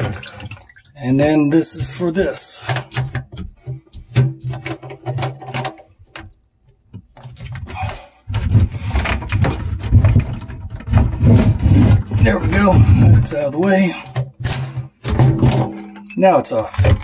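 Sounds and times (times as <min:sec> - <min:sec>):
plastic pipe rubbing and scraping: 0:00.0 - 0:17.0
plastic clicks and knocks: 0:02.6 - 0:17.0.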